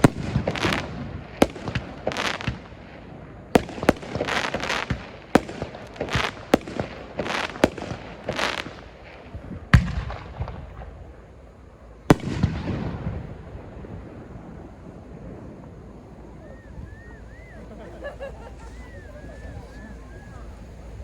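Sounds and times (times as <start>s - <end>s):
fireworks bangs: 0.0s - 21.0s
fireworks crackling and hissing: 0.0s - 21.0s.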